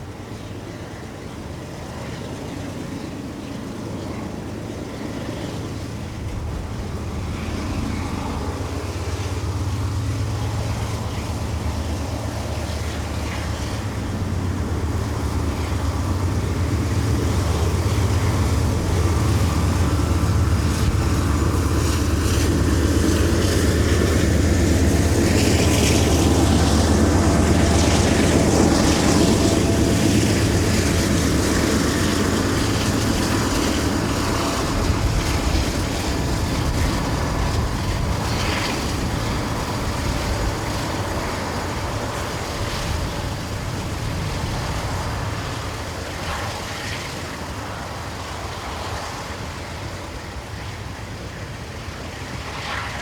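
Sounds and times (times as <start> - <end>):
train engine rumble: 0.0 - 53.0.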